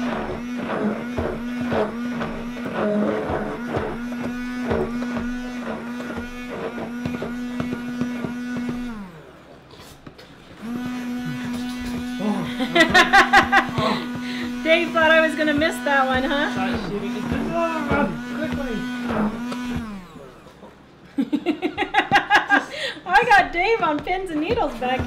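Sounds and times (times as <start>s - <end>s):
blender head knocking: 0.0s - 9.1s, 10.6s - 20.4s, 23.1s - 25.0s
stick blender motor whine: 0.0s - 21.0s, 23.1s - 25.0s.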